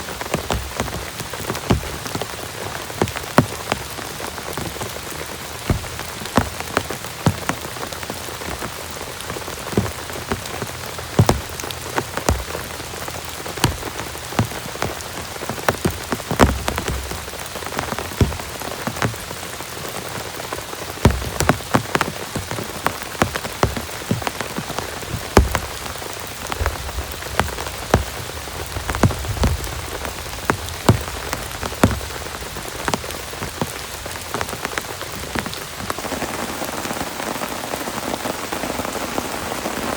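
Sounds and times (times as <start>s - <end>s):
heavy rain falling: 0.0s - 39.9s
large raindrops tapping: 0.0s - 39.9s.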